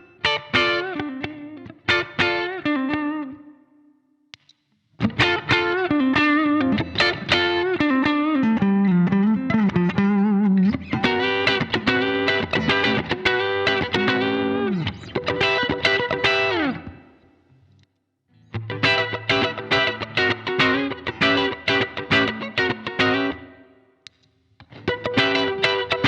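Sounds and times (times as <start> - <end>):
clean electric guitar playing: 0.0 - 3.7, 5.0 - 17.3, 18.3 - 24.0, 24.6 - 26.0.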